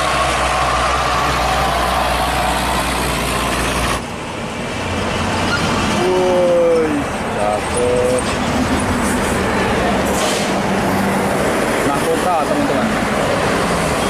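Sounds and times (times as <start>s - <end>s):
highway traffic noise: 0.0s - 14.0s.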